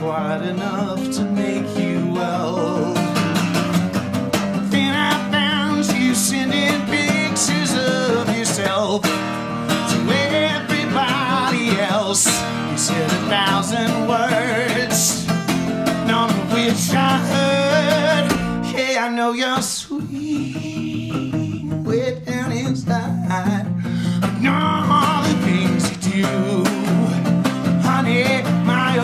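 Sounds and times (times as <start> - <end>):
man singing with vibrato: 0.0 - 3.8, 4.5 - 29.0
acoustic guitar: 0.0 - 29.0.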